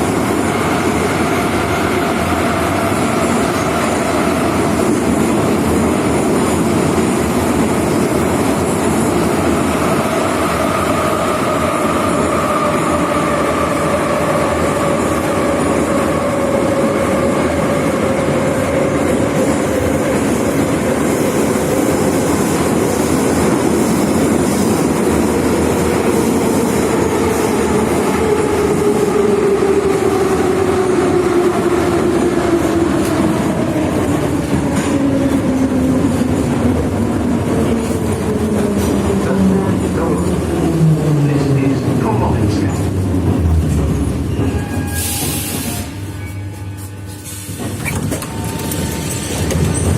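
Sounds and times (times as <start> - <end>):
train wheel noise: 0.0 - 49.9.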